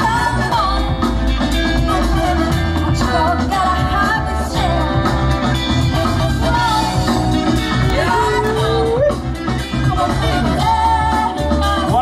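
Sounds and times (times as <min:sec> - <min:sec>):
loud music with drums and bass: 0:00.0 - 0:12.0.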